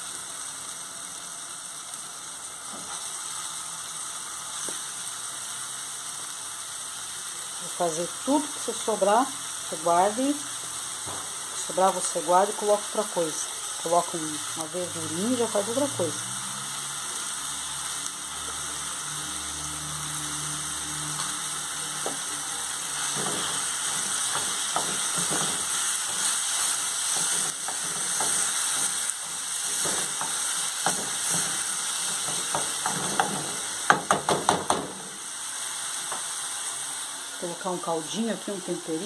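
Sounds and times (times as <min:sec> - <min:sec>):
meat sizzling in a pot: 0:00.0 - 0:39.0.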